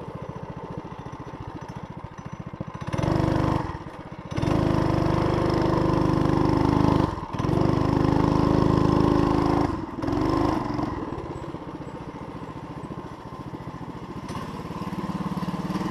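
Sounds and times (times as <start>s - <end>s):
small engine running: 0.0s - 15.9s.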